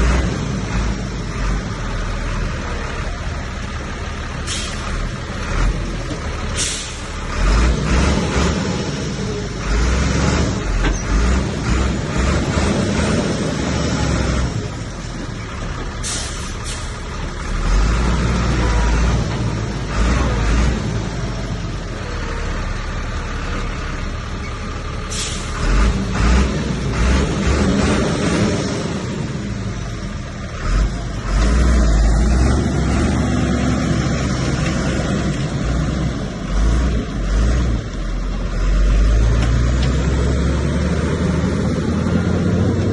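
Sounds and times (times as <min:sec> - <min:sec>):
heavy diesel machinery rumbling: 0:00.0 - 0:42.9.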